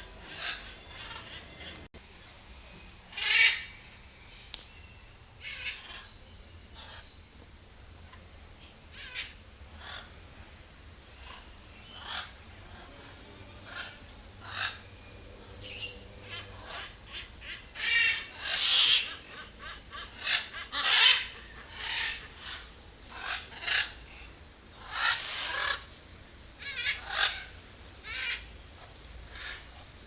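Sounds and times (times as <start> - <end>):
bird raspy calls: 0.0 - 1.9, 5.4 - 7.2, 8.6 - 10.2, 11.1 - 30.0.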